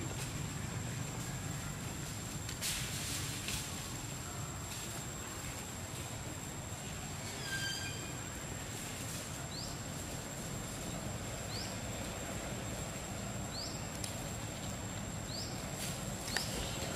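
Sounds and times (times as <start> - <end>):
background hiss: 0.0 - 16.9.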